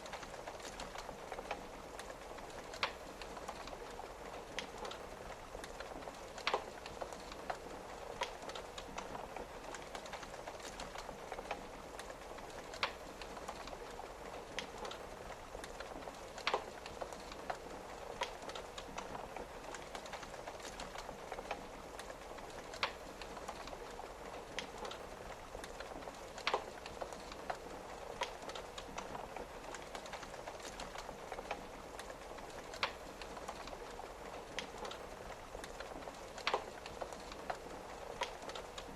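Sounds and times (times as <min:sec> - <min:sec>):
rain pattering on a window: 0:00.0 - 0:38.9
wood fire crackling and popping: 0:00.0 - 0:38.9.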